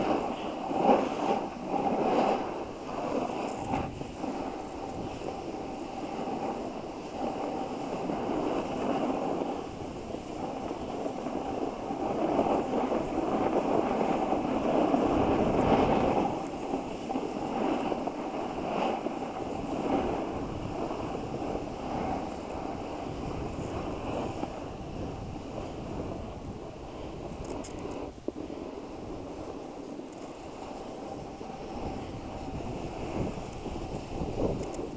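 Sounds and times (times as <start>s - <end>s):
snowboard scraping over snow: 0.0s - 34.9s
wind on microphone: 0.0s - 34.9s.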